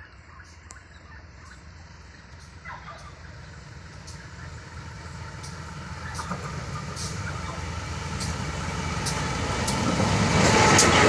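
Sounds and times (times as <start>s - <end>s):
diesel locomotive engine: 0.0s - 11.0s
train wheels rumbling: 0.0s - 11.0s.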